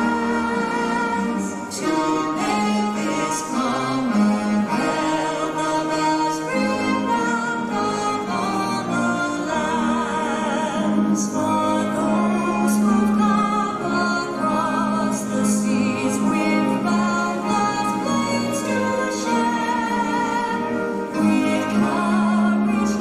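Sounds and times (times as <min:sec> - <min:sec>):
students singing together: 0:00.0 - 0:23.0.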